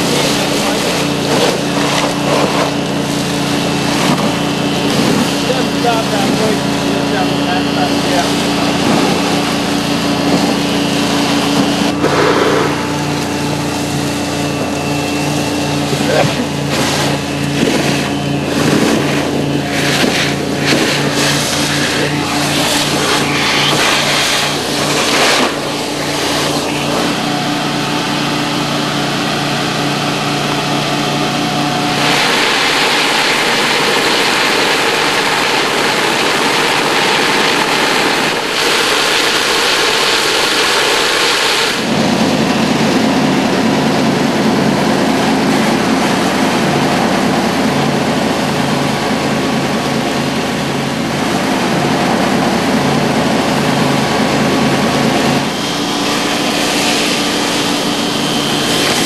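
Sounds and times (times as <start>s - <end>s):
loud rushing hiss: 0.0s - 42.1s, 50.6s - 59.0s
vacuum excavator engine hum: 0.0s - 59.0s
rushing air and water: 8.0s - 59.0s.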